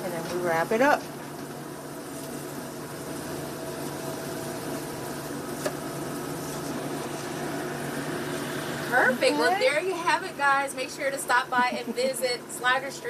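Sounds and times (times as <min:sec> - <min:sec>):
mechanical hum of kitchen equipment: 0:00.0 - 0:13.0.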